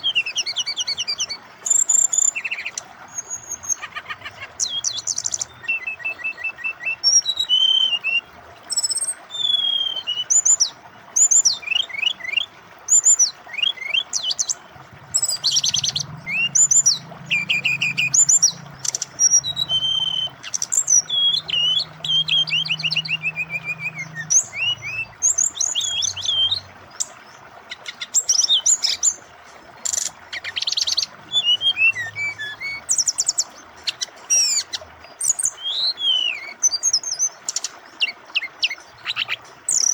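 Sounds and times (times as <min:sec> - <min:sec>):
bird singing whistles and trills: 0:00.0 - 0:29.2, 0:29.8 - 0:39.9
running water hiss: 0:00.0 - 0:39.9.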